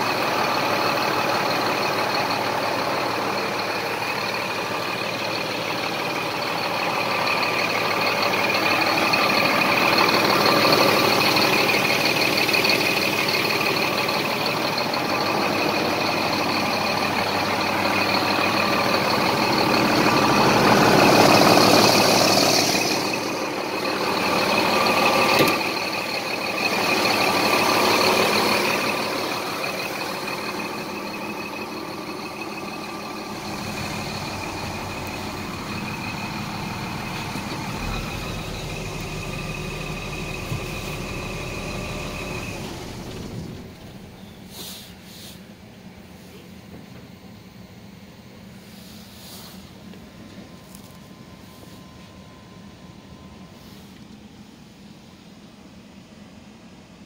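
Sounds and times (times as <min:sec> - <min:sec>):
diesel engine idling: 0:00.0 - 0:57.0
high steady whine: 0:00.0 - 0:57.0.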